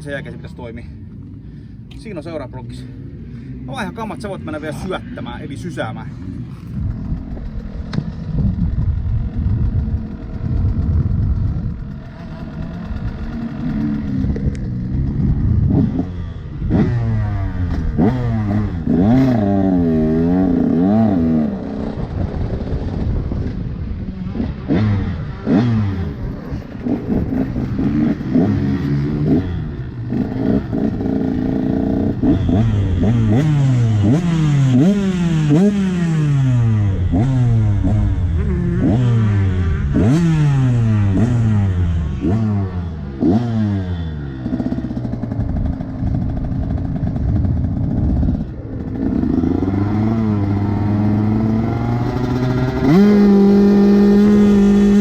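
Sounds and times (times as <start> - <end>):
motocross bike engine revving: 3.7 - 55.0.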